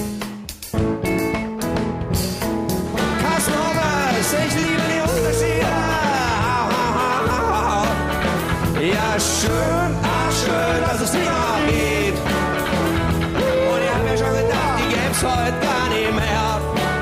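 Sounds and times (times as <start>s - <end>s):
live band solo: 0.0s - 17.0s.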